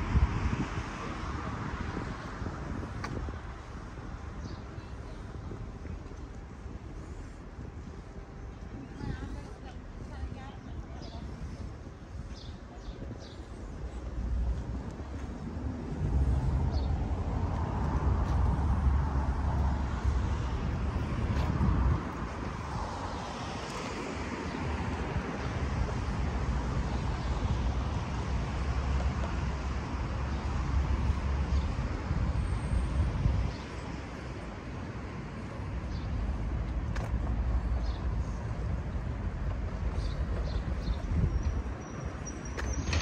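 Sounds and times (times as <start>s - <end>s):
street traffic passing: 0.0s - 43.0s
wind rumble on microphone: 0.0s - 43.0s.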